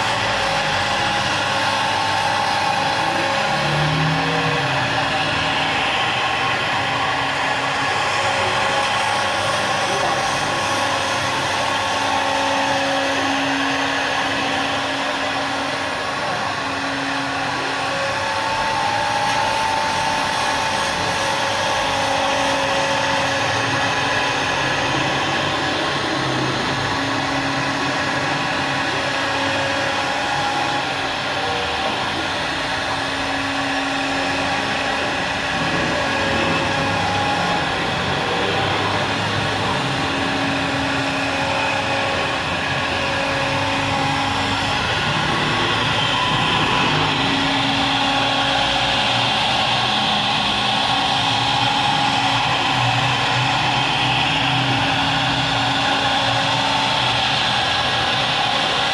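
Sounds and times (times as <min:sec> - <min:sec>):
electric woodworking tool running: 0:00.0 - 0:58.9.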